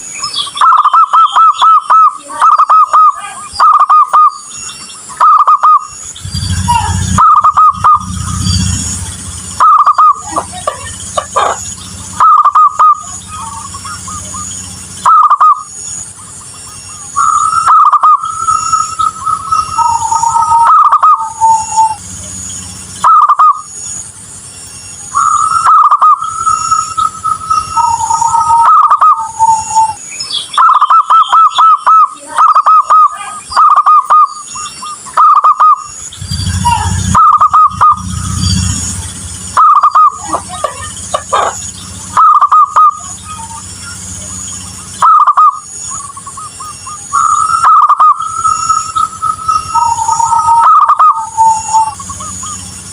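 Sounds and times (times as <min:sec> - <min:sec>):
dove cooing: 0:00.6 - 0:04.4, 0:05.0 - 0:22.3, 0:23.0 - 0:23.7, 0:25.1 - 0:30.0, 0:30.6 - 0:52.9.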